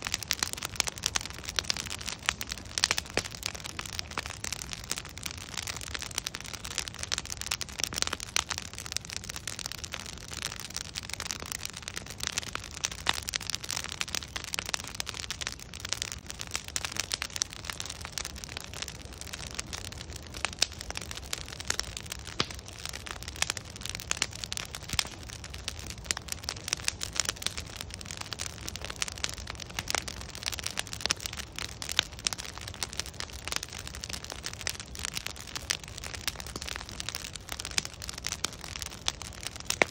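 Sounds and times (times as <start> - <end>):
bonfire crackling and popping: 0.0 - 39.9
low rumble of fire: 0.0 - 39.9.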